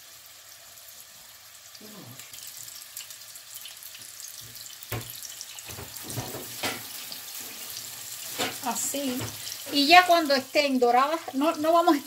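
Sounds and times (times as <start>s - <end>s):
patty sizzling in oil: 0.0s - 12.0s.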